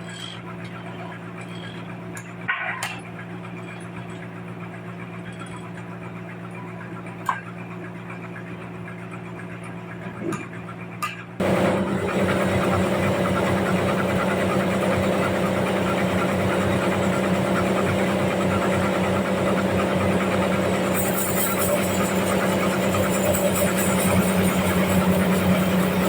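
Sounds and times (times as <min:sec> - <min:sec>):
sawmill machinery humming: 0:03.2 - 0:26.0.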